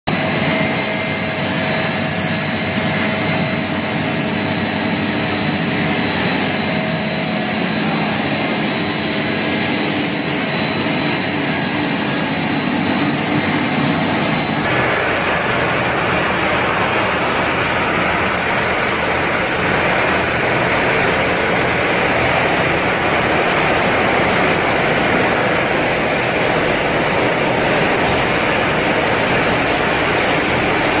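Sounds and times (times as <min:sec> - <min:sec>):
high machine whine: 0:00.0 - 0:31.0
loud machinery noise: 0:00.0 - 0:31.0.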